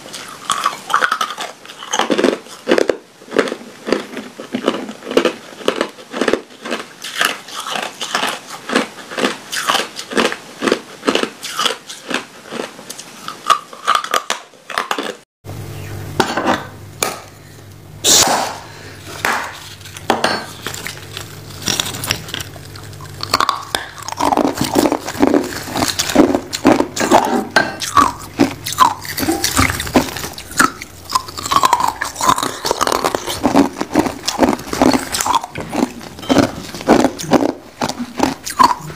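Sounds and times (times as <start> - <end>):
ice crunched between teeth: 0.2 - 15.2, 19.3 - 38.9.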